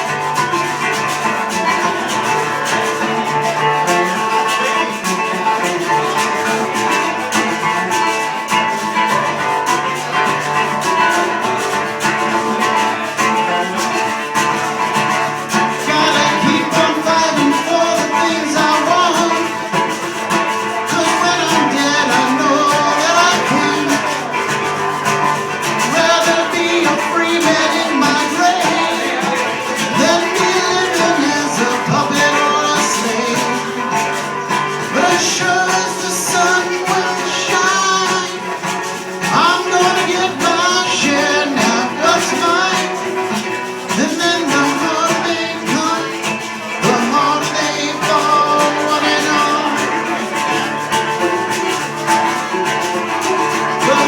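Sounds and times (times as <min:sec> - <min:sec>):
reggae guitar playing: 0:00.0 - 0:54.0
wavering melody line: 0:00.0 - 0:54.0.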